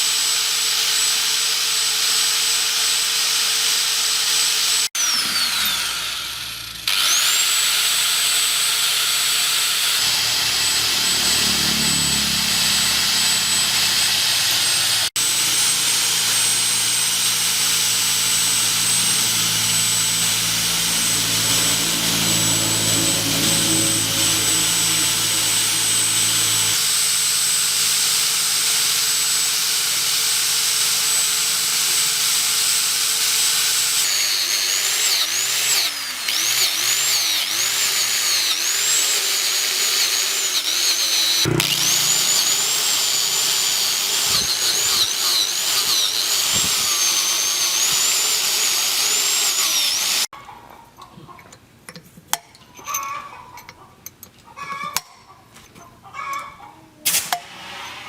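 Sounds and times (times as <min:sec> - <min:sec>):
power tool whining: 0:00.0 - 0:50.3, 0:57.1 - 0:58.0.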